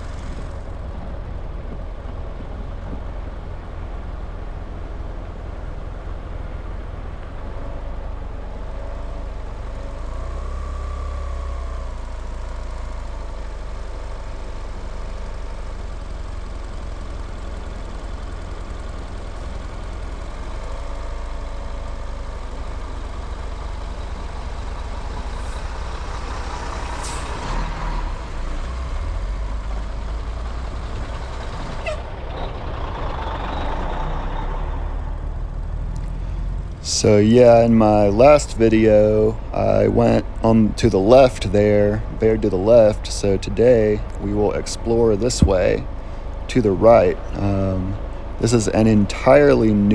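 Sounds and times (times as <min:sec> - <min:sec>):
vehicle road rumble: 0:00.0 - 0:49.9.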